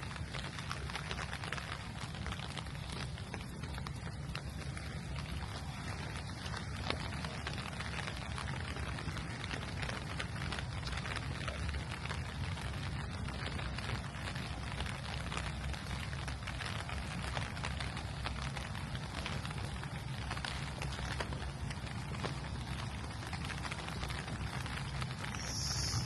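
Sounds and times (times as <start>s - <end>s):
low steady rumble: 0.0s - 26.0s
raindrop hits: 0.0s - 26.0s
steady rain falling: 0.0s - 26.0s.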